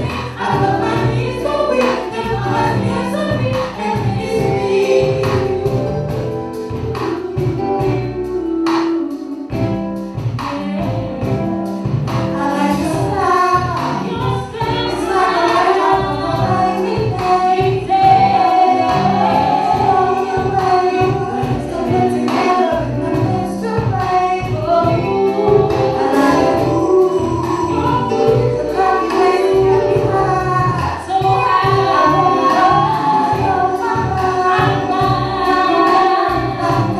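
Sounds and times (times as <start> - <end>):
woman singing: 0.0 - 9.7, 12.4 - 36.9
live band music: 0.0 - 36.9.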